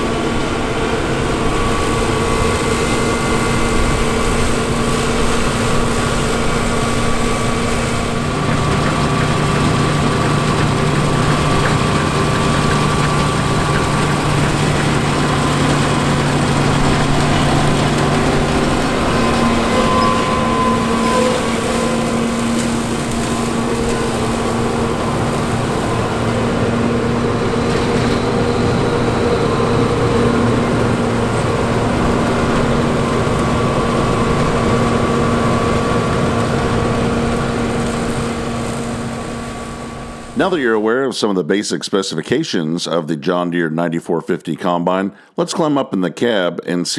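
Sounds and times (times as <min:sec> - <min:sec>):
combine harvester engine drone: 0:00.0 - 0:41.0.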